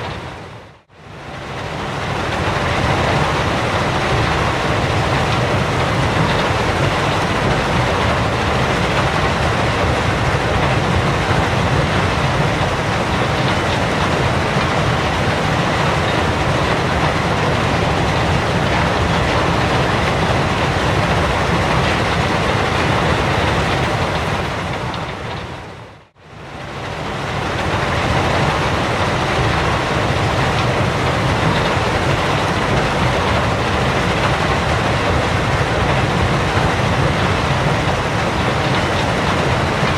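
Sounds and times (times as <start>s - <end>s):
quarry machinery noise: 0.0s - 39.9s.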